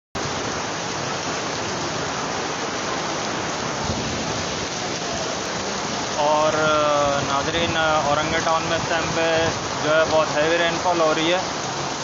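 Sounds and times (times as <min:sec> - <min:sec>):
heavy rain pouring: 0:00.2 - 0:12.0.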